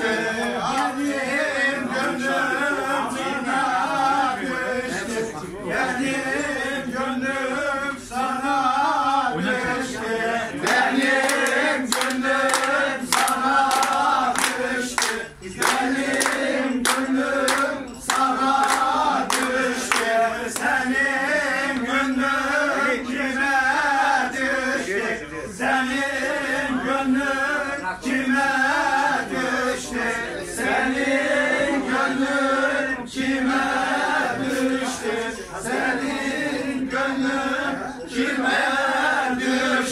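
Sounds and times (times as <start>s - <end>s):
men singing together: 0.0s - 39.9s
rhythmic hand claps: 0.0s - 39.9s.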